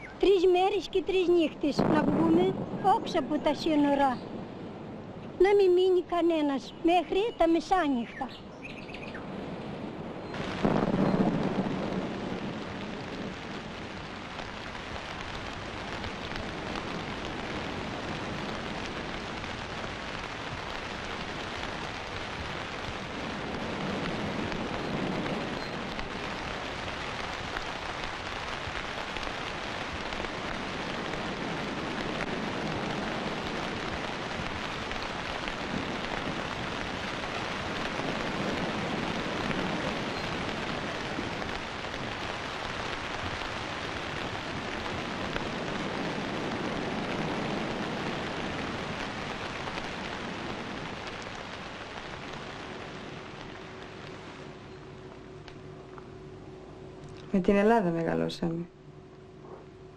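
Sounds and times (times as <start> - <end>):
distant thunder rumbles: 0.0 - 55.9
rain falling: 0.0 - 59.9.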